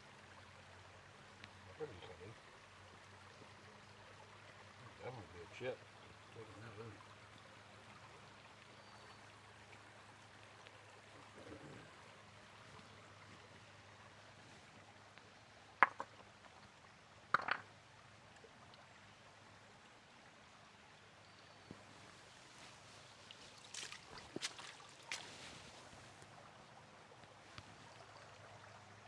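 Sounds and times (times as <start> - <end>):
creek water running: 0.0 - 29.0.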